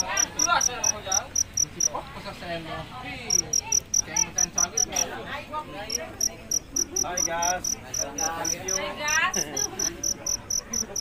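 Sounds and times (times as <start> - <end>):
cricket chirping: 0.0 - 2.0, 3.3 - 5.2, 5.8 - 11.0.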